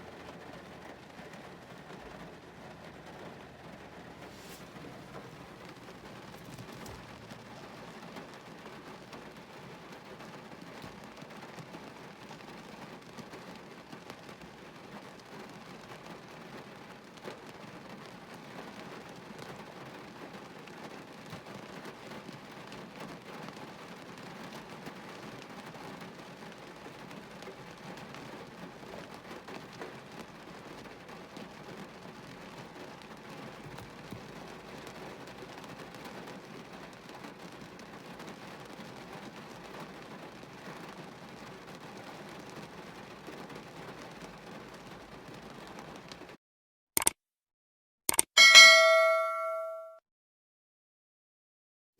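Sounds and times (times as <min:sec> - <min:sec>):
heavy rain on a car: 0:00.0 - 0:46.4.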